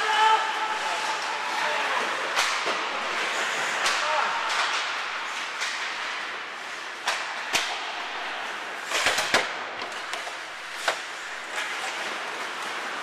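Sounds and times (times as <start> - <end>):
hockey sticks and puck cracking: 0.0 - 13.0
skates scraping ice: 0.0 - 13.0.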